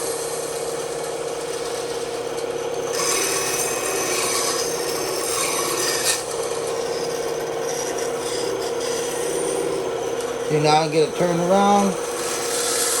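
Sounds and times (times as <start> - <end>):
bandsaw humming: 0.0 - 13.0
saw blade cutting wood: 0.0 - 13.0.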